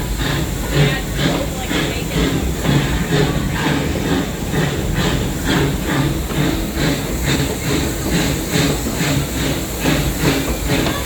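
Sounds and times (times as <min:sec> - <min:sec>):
rumble of rolling cars: 0:00.0 - 0:11.0
steam train puffing: 0:00.0 - 0:11.0.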